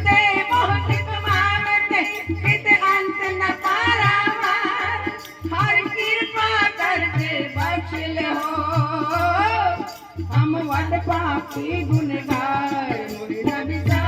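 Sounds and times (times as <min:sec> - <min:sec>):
tabla beat: 0:00.0 - 0:14.0.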